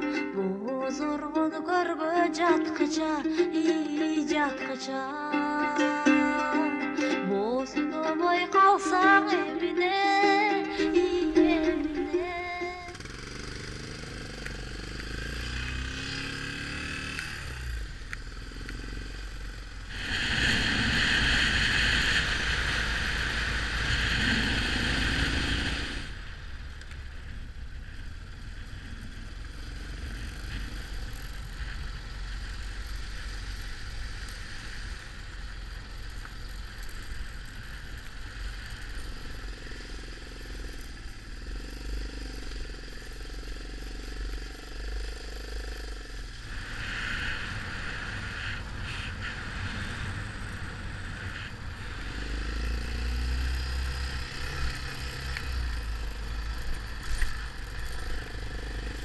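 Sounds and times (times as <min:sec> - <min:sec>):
loud hissing noise: 0:10.6 - 0:59.0
motorcycle engine running: 0:10.8 - 0:59.0.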